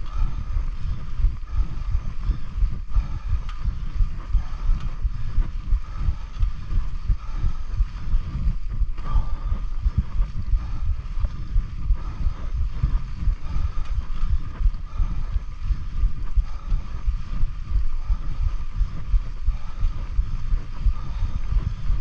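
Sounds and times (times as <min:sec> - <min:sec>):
faint steady high hum: 0:00.0 - 0:22.0
wind buffeting microphone: 0:00.0 - 0:22.0.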